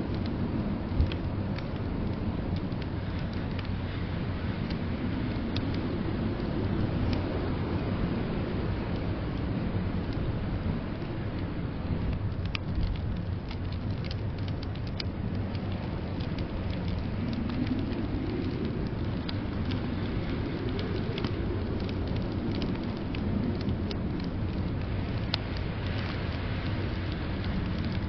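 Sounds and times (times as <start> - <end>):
blizzard wind rumbling: 0.0 - 28.0
wood fire crackling: 0.0 - 28.0.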